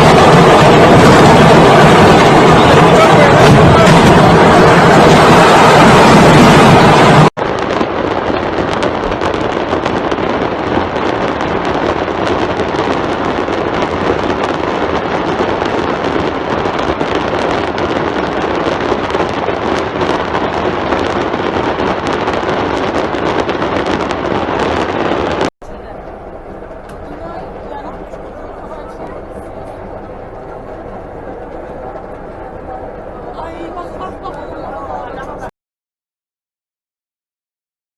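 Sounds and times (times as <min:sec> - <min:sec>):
fireworks crackling and popping: 0:00.0 - 0:35.5.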